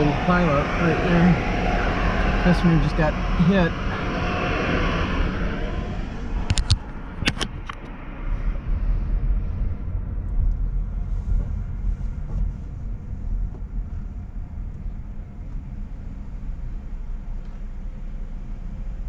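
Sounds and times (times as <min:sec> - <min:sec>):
car wash machinery rumbling: 0:00.0 - 0:07.2, 0:08.1 - 0:19.0.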